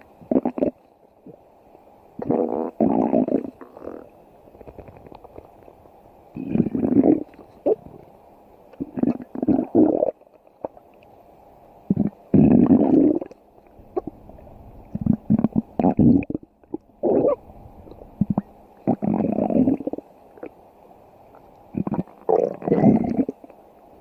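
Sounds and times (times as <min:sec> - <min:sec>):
stomach growling: 0:00.2 - 0:01.4, 0:02.2 - 0:05.7, 0:06.4 - 0:08.1, 0:08.7 - 0:10.8, 0:11.9 - 0:20.6, 0:21.3 - 0:23.6.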